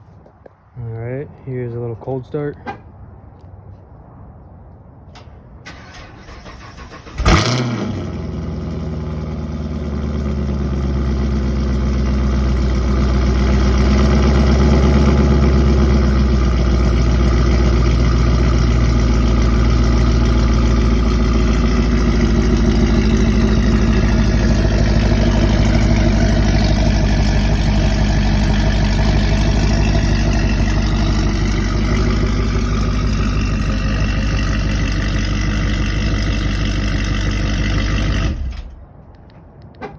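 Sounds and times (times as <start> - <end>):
car engine starting and idling: 5.1 - 39.8.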